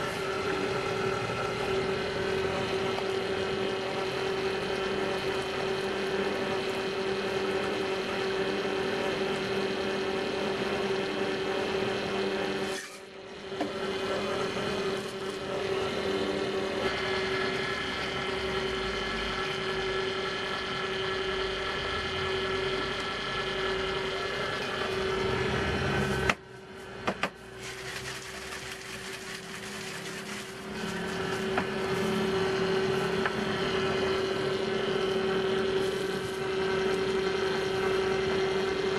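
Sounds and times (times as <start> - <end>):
electrical machine hum: 0.0 - 38.9.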